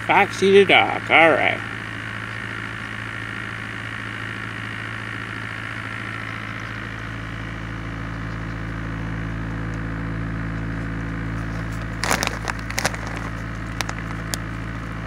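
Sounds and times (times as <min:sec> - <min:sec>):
car engine drone: 0:00.0 - 0:15.0.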